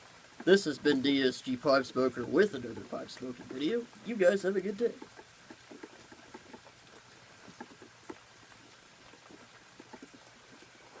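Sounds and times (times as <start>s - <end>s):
faint rain falling: 0.0s - 11.0s
light drip ticks: 0.0s - 11.0s.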